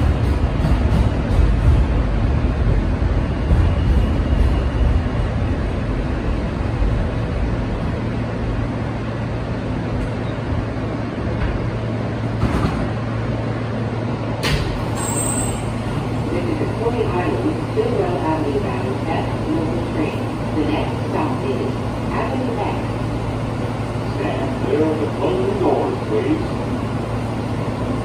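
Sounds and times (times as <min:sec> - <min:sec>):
subway car rumble and wheel noise: 0:00.0 - 0:28.0.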